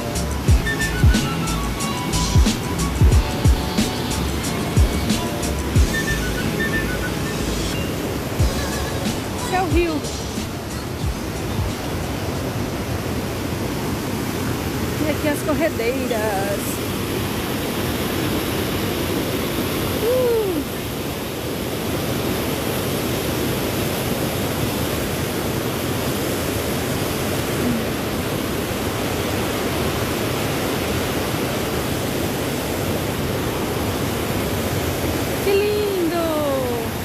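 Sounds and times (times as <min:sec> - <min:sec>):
river rapids rushing over rocks: 0:00.0 - 0:37.0.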